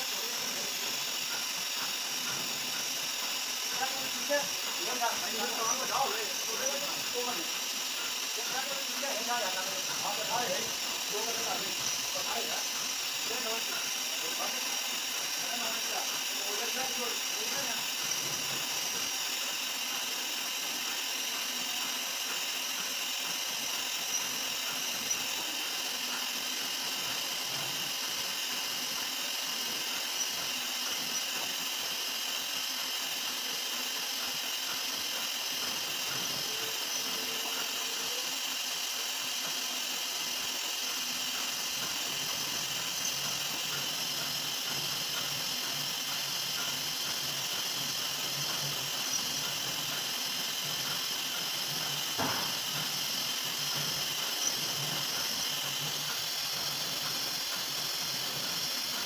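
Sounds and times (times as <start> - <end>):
milling machine hiss and whine: 0.0 - 59.0.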